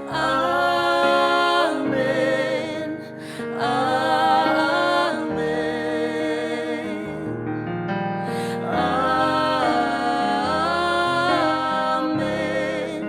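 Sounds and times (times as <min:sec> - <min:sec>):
congregation singing long notes: 0:00.0 - 0:07.4, 0:08.3 - 0:13.0
piano chords: 0:00.0 - 0:13.0.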